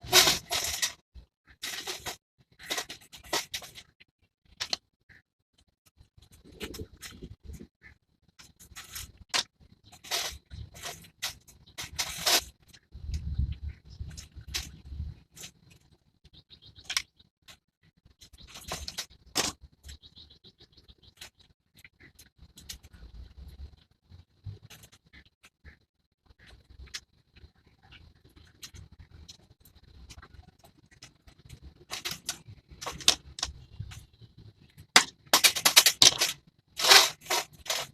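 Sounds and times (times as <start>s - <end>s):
scraping and rustling handling noise: 0.0s - 4.9s, 5.6s - 16.1s, 16.8s - 20.0s, 24.4s - 37.9s.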